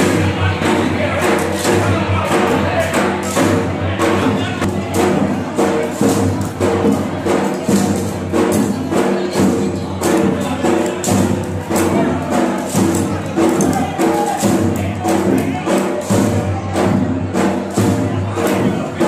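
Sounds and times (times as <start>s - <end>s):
hand percussion: 0.0s - 19.0s.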